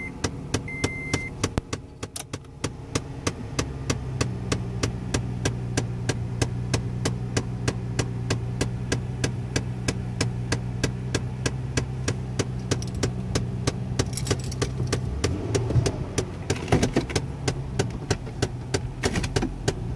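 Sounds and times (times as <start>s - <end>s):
car engine idling: 0.0s - 19.9s
rapid clicking inside dashboard: 0.0s - 19.9s.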